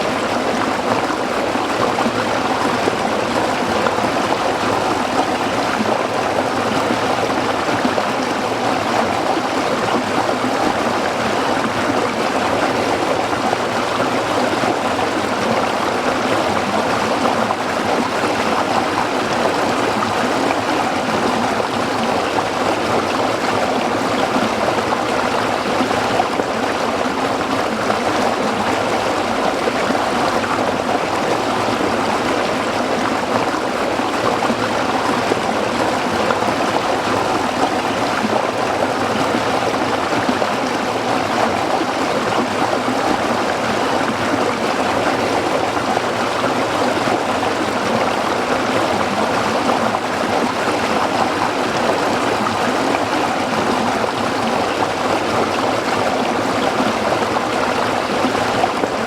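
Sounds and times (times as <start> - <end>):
stream burbling over rocks: 0.0 - 59.0.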